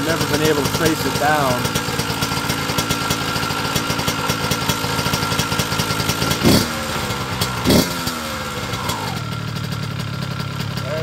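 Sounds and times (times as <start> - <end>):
two-stroke engine idling: 0.0 - 11.0.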